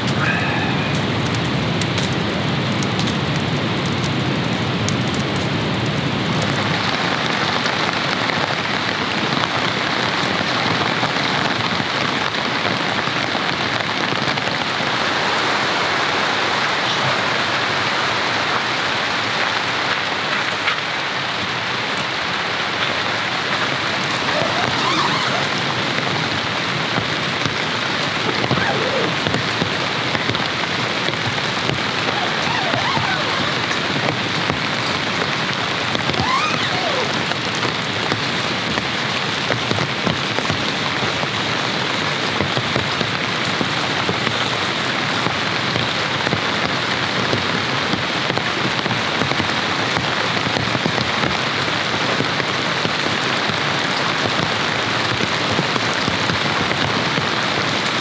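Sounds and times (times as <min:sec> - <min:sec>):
heavy rain on tarp: 0:00.0 - 0:58.0.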